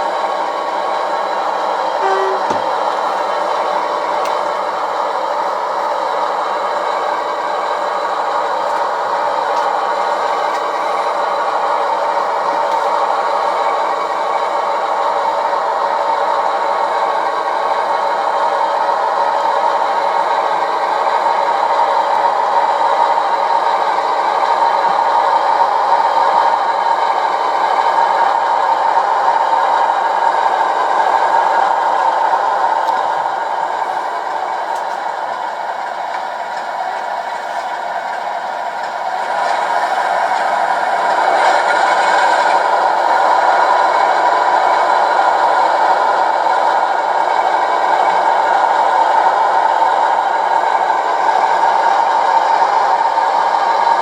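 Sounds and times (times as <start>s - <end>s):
model train whirring and rattling: 0.0s - 54.0s.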